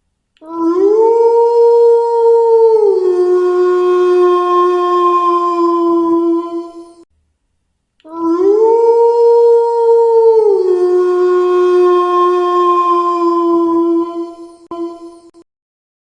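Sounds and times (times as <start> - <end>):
wolf howling: 0.4 - 7.0, 8.1 - 15.4.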